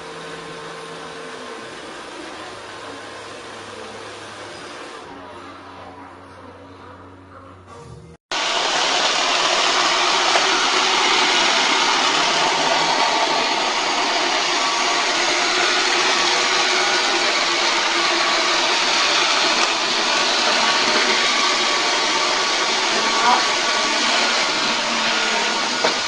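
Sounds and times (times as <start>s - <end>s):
vacuum cleaner running: 0.0s - 5.4s, 8.3s - 26.0s.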